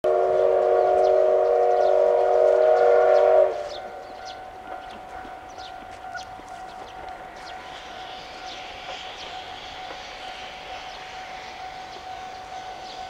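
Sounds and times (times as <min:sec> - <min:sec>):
steam locomotive whistle: 0:00.1 - 0:06.7, 0:07.4 - 0:13.0.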